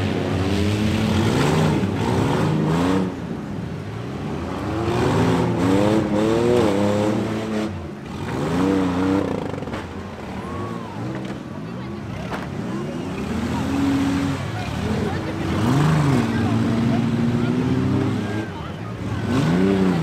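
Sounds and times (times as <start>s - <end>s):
minivan engines revving hard: 0.0s - 20.0s.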